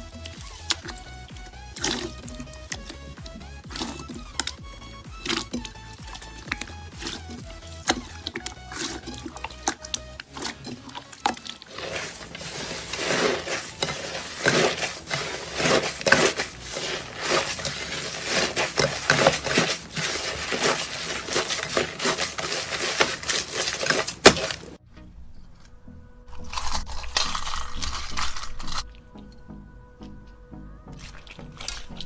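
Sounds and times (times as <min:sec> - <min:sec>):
crisp material crunching by hand: 0:00.0 - 0:24.8, 0:26.3 - 0:28.9, 0:31.0 - 0:32.0.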